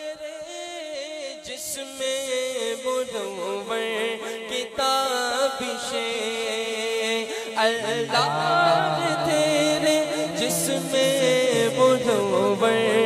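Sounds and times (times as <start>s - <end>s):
man singing into microphone: 0.0s - 13.0s.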